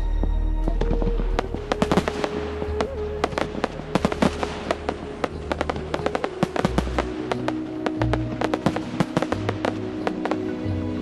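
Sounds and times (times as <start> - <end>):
background music: 0.0 - 11.0
fireworks bursting: 0.8 - 10.6.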